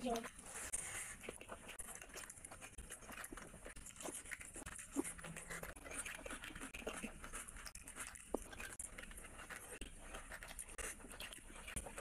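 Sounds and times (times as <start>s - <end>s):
fingers squishing rice and curry: 0.0s - 12.0s
wet chewing and lip-smacking: 0.0s - 12.0s.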